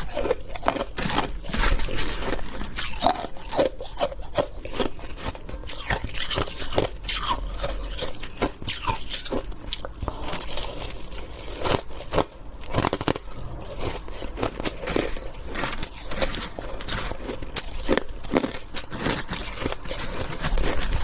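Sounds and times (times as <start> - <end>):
crunching of shaved ice: 0.0 - 21.0
metal spoon scraping ice: 0.0 - 21.0.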